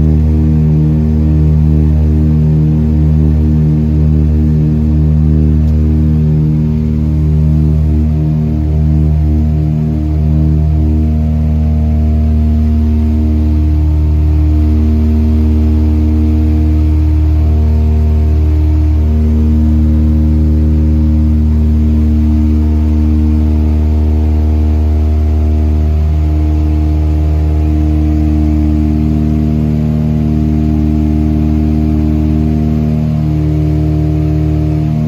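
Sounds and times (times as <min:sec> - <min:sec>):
propeller engines droning: 0:00.0 - 0:35.0.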